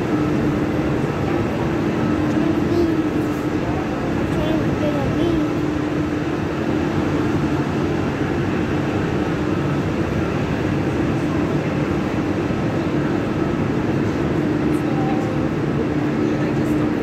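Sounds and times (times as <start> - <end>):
train humming: 0.0 - 17.0.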